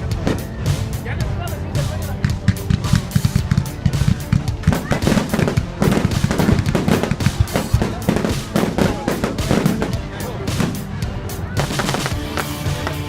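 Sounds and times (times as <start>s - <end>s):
fireworks bangs and crackles: 0.0s - 13.0s
music: 0.0s - 13.0s
voices: 0.0s - 13.0s.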